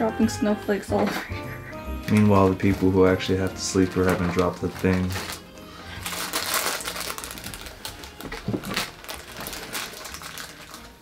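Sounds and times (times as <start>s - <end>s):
plastic packets crinkling: 1.9s - 11.0s.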